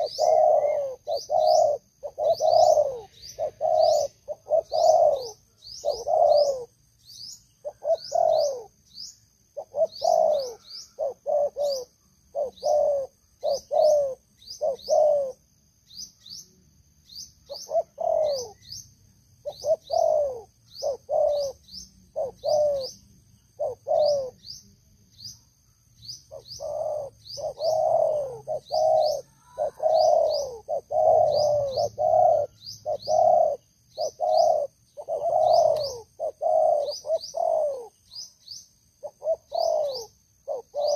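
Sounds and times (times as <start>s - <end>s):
doves cooing: 0.0s - 6.8s, 7.6s - 8.8s, 9.5s - 15.5s, 17.5s - 18.7s, 19.4s - 24.6s, 26.3s - 38.3s, 39.0s - 40.9s
small bird chirping: 0.0s - 40.9s.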